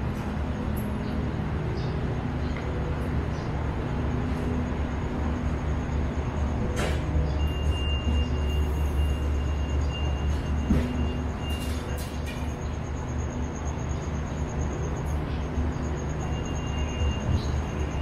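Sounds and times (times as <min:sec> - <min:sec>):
diesel train engine idling: 0:00.0 - 0:18.0.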